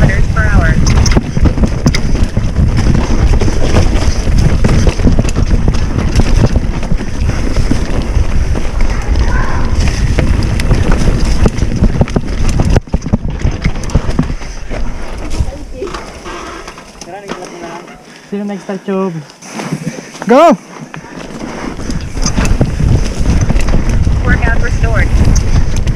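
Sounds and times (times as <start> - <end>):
wind buffeting microphone: 0.0 - 17.4, 19.8 - 25.9
bicycle knocks and rattles: 0.0 - 17.6, 20.8 - 24.4.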